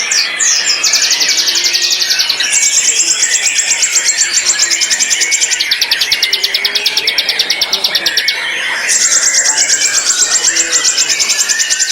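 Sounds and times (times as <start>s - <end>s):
background birdsong: 0.0s - 11.9s
bird singing rapid high notes: 0.0s - 11.9s.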